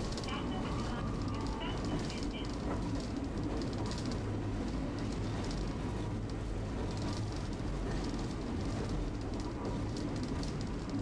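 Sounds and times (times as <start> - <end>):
streetcar rumbling on rails: 0.0 - 11.0.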